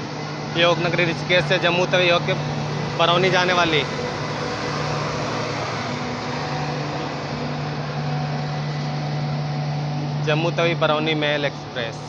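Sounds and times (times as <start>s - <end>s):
train mechanical hum: 0.0s - 12.0s.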